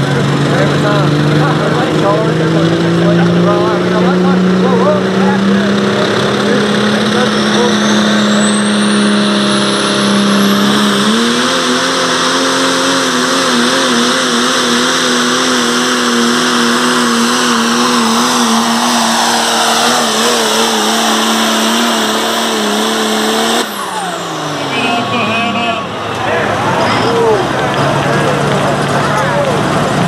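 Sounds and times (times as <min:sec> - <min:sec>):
diesel truck engine at full throttle: 0:00.0 - 0:30.0.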